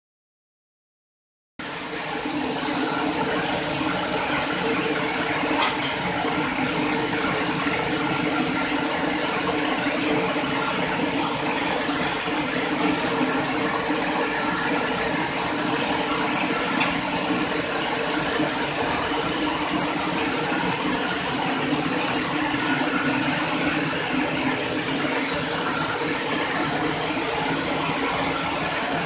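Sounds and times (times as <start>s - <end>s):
pump hum: 1.6s - 29.0s.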